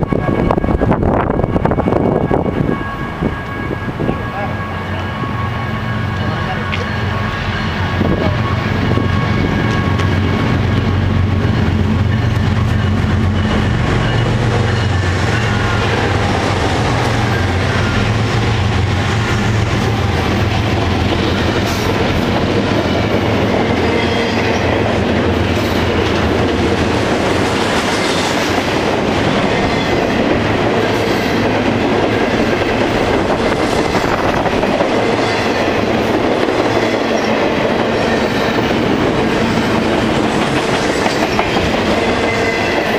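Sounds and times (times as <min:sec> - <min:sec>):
diesel locomotives droning: 0:00.0 - 0:42.9
train wheels clicking on rails: 0:07.7 - 0:42.9.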